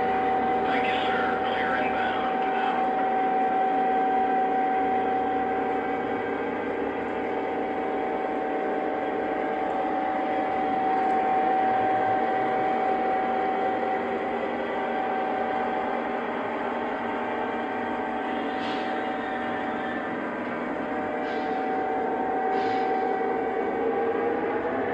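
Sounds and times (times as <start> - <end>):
model train electric hum: 0.0 - 24.9.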